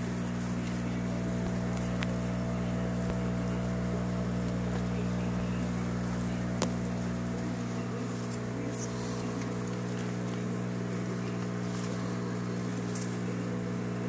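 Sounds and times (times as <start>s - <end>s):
water pump electric hum: 0.0s - 14.0s.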